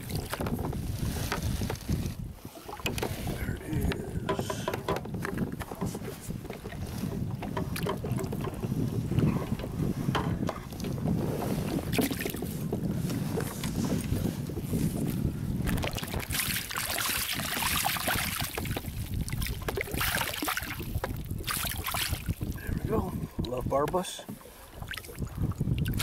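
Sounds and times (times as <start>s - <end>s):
water lapping against kayak: 0.0s - 26.0s
wind buffeting microphone: 0.0s - 26.0s.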